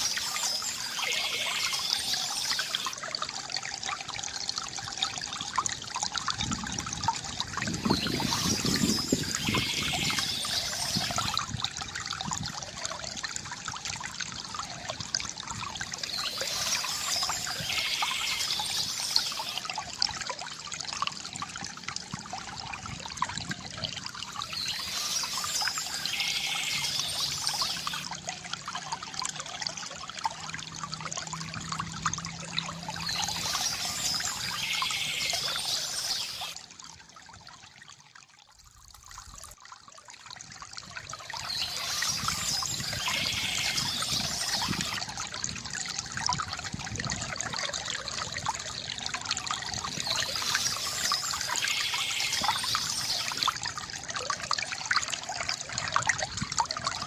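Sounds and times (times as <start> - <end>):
water trickling from fountain: 0.0 - 57.0.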